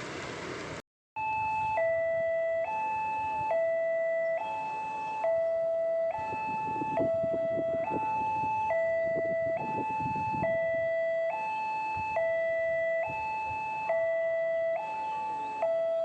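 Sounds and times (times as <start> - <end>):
level crossing two-tone alarm: 1.2 - 16.0.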